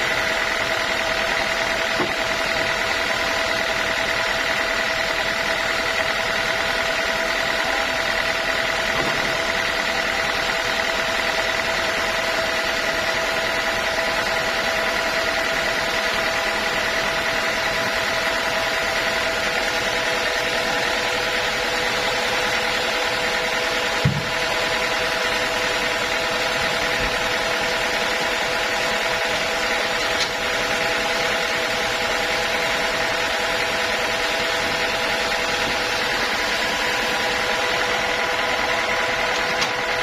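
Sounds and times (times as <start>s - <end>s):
sawmill machinery whining: 0.0s - 40.0s.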